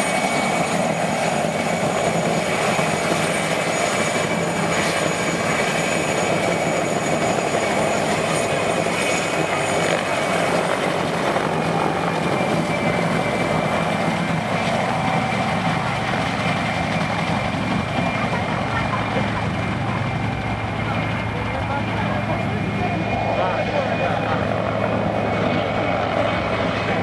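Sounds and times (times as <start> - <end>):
helicopter flying: 0.0 - 27.0
turbine whine: 0.0 - 27.0.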